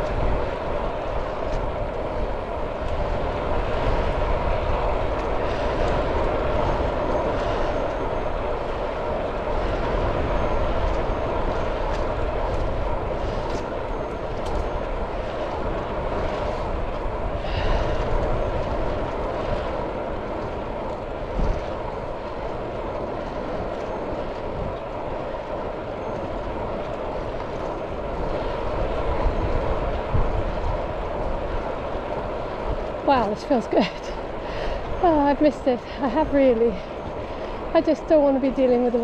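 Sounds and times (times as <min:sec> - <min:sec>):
bike tyres on rough road: 0:00.0 - 0:39.0
wind rushing over microphone: 0:00.0 - 0:39.0.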